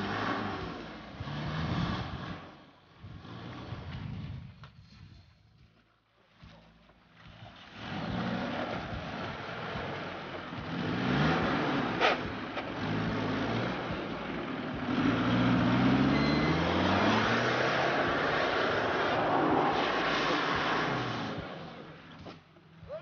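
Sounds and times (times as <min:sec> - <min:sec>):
off-road engine revving: 0:00.0 - 0:05.0, 0:07.1 - 0:22.5.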